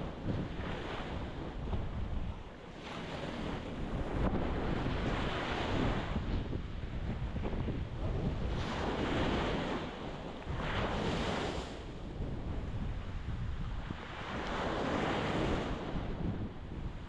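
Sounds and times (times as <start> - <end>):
ocean surf breaking on shore: 0.0 - 17.0
wind rumble on microphone: 0.0 - 17.0.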